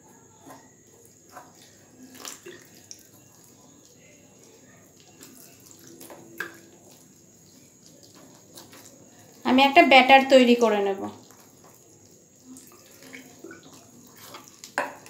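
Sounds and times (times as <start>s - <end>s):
water pouring into a bowl: 0.7s - 15.0s.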